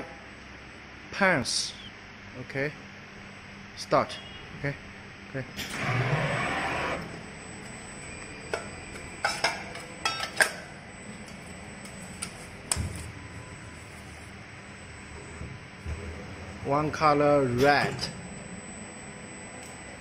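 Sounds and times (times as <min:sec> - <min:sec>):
low hum: 0:02.0 - 0:20.0.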